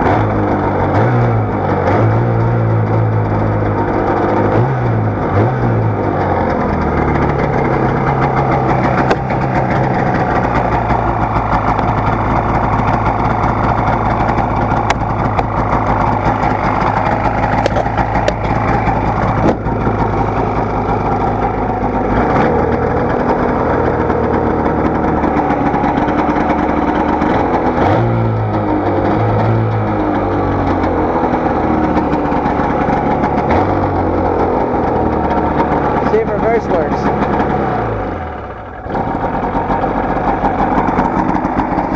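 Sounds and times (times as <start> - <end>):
snowmobile engine idling: 0.0 - 41.9.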